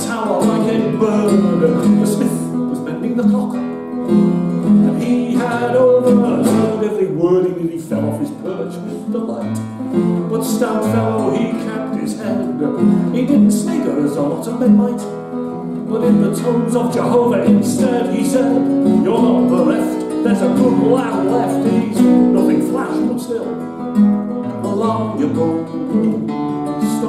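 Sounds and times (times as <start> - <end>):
classical guitar: 0.0 - 27.0
man singing folk song: 0.0 - 27.0.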